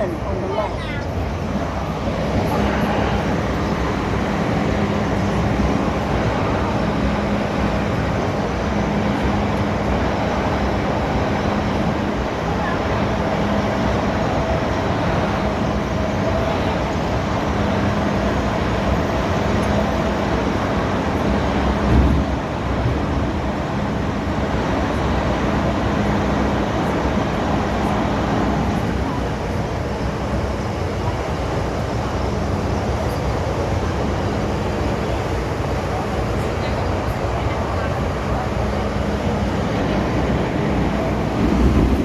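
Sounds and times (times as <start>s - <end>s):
train car rumbling din: 0.0s - 42.0s.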